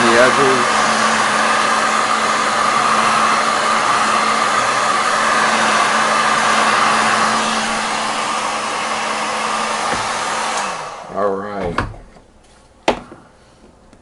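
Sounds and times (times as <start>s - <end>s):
hot-air blower running: 0.0s - 11.9s.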